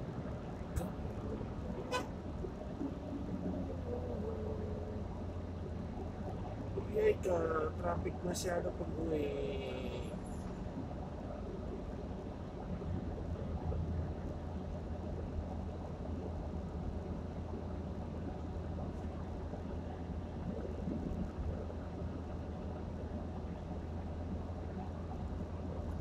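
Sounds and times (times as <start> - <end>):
car interior road rumble: 0.0 - 26.0.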